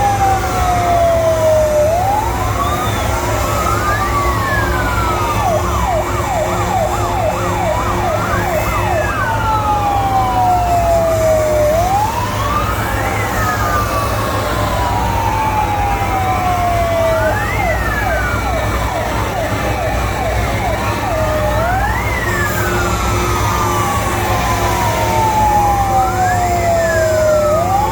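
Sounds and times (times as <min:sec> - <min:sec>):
fire engine sirens wailing: 0:00.0 - 0:27.9.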